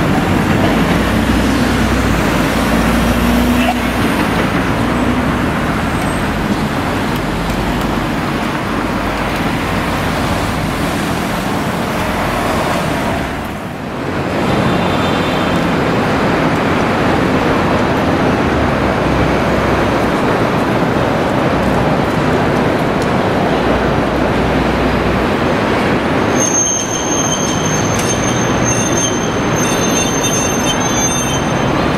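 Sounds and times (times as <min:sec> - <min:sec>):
city road traffic: 0:00.0 - 0:31.9.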